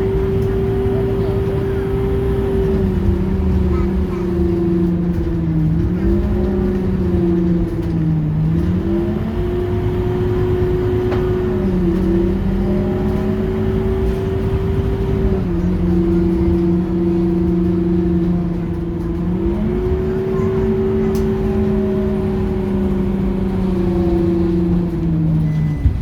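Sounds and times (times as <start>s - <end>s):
bus engine rumbling: 0.0s - 26.0s
two-tone drivetrain hum: 0.0s - 26.0s.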